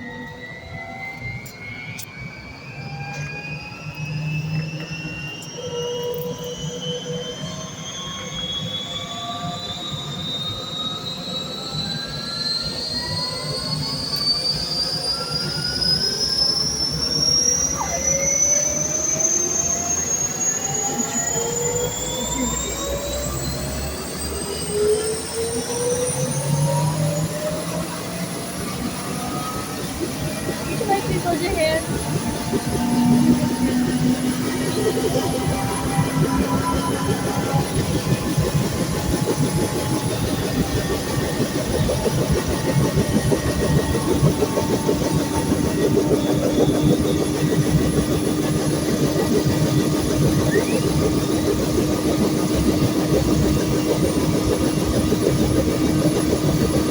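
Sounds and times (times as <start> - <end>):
helicopter turbine whine rising: 0.0 - 56.9.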